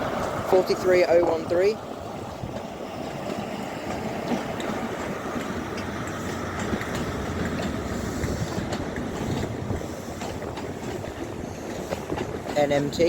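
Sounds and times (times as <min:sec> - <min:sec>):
train engine and wheel rumble: 0:00.0 - 0:13.0
wind noise on microphone: 0:00.0 - 0:13.0.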